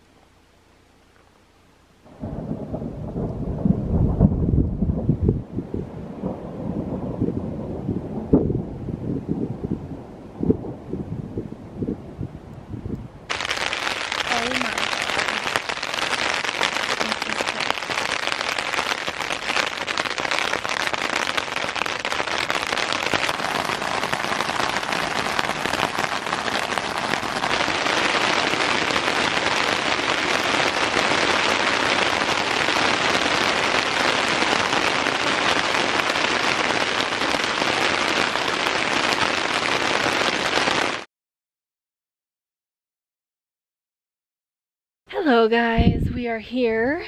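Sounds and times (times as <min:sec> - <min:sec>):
rain falling on a tent: 0:00.0 - 0:11.7, 0:12.4 - 0:41.1.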